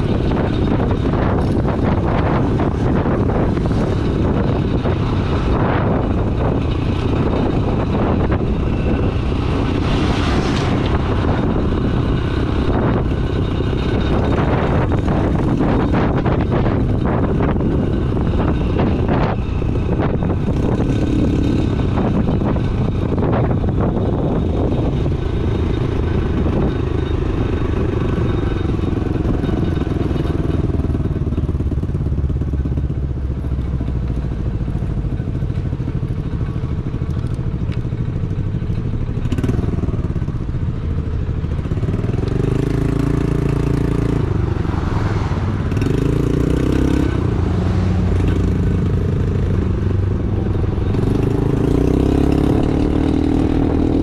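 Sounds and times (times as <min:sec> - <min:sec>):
small motorbike engine running: 0:00.0 - 0:54.0.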